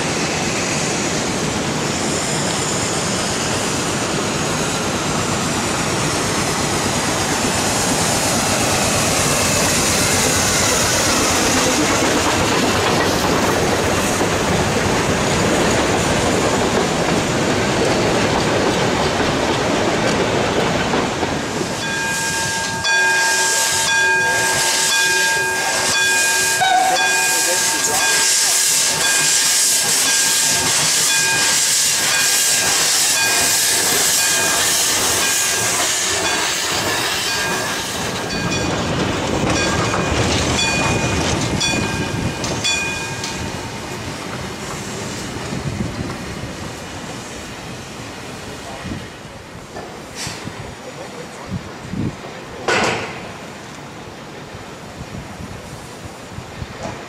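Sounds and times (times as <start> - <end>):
steam locomotive hissing: 0.0 - 57.0
steam train passing: 0.0 - 57.0.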